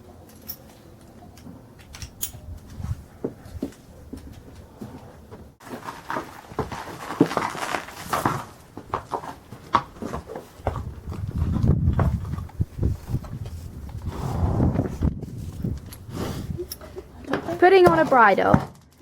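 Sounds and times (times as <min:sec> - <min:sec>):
pony handling knocks and shuffles: 0:00.3 - 0:14.1, 0:14.8 - 0:19.0.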